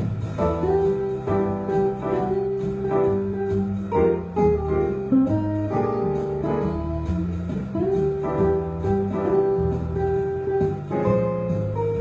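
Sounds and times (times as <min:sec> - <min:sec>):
electric guitar jazz improvisation: 0:00.0 - 0:12.0
low bass line: 0:00.0 - 0:12.0.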